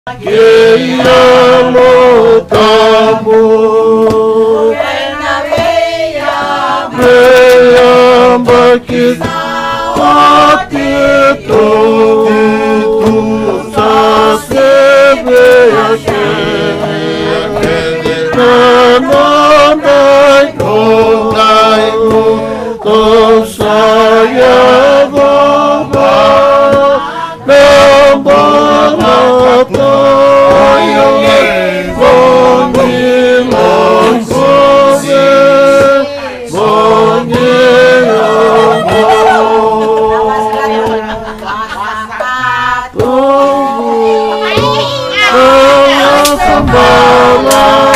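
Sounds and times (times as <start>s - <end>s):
group singing in harmony: 0.1s - 47.9s.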